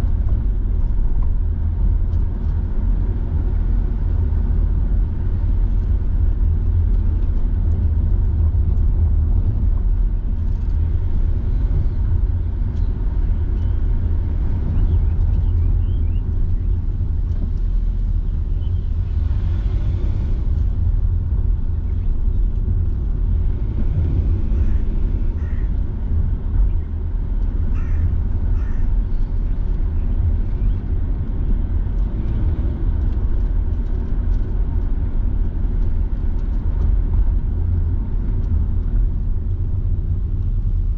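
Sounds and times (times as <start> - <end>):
car engine and tyres rumbling: 0.0 - 40.9.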